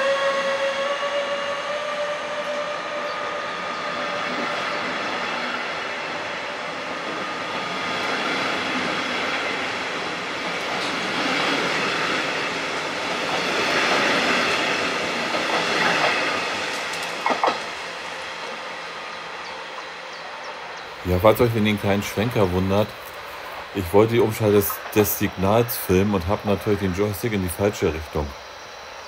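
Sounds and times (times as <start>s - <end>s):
passenger train passing on rails: 0.0s - 29.0s.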